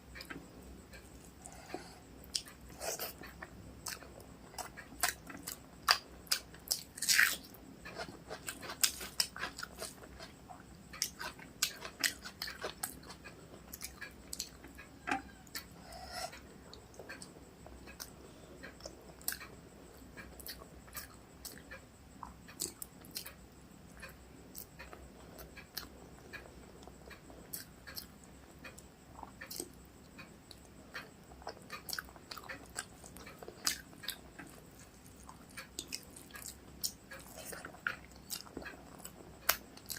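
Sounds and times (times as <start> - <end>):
person chewing food: 0.2 - 23.4, 24.0 - 39.9.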